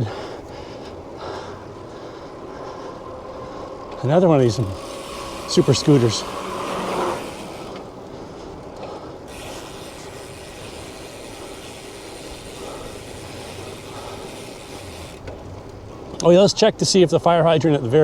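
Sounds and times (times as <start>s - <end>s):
bicycle tyre and wind noise: 0.0s - 18.0s
passing motor traffic hum: 0.0s - 18.0s.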